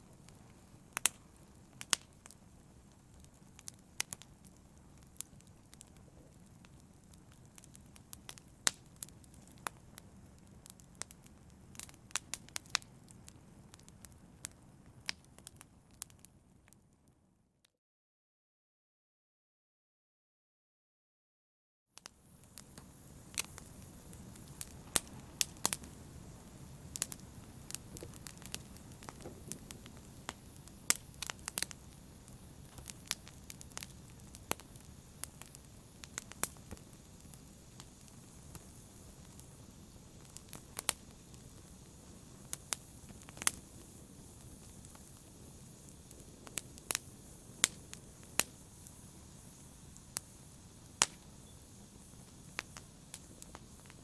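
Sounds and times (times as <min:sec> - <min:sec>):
fire crackling and popping: 0:00.0 - 0:17.1, 0:22.0 - 0:54.0
fire rumbling in a fireplace: 0:00.0 - 0:17.1, 0:22.0 - 0:54.0.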